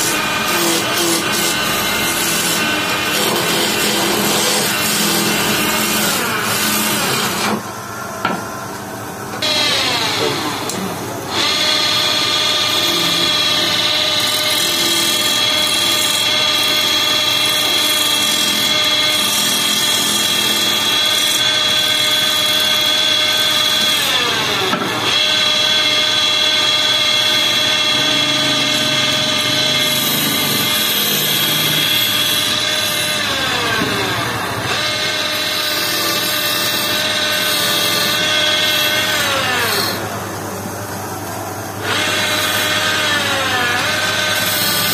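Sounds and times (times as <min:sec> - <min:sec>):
wood lathe whining: 0:00.0 - 0:44.9.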